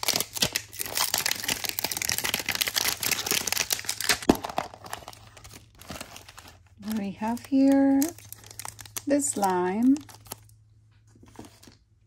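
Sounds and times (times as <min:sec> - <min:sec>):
packaging crinkling and tearing: 0:00.0 - 0:10.6, 0:11.2 - 0:11.8.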